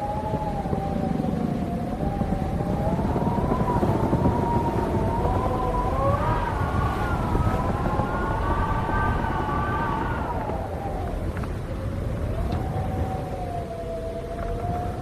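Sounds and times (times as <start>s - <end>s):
low wind rumble: 0.0s - 15.0s
wind howling and whistling: 0.0s - 15.0s.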